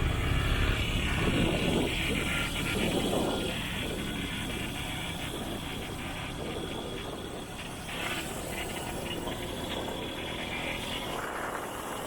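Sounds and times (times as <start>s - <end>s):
motorbike engine rumble: 0.0s - 12.0s
road noise: 0.0s - 12.0s
wind: 0.0s - 12.0s.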